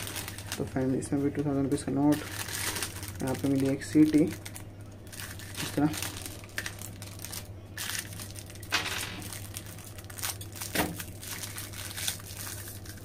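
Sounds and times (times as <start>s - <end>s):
plastic packet crinkling: 0.0s - 13.0s
steady low hum: 0.0s - 13.0s.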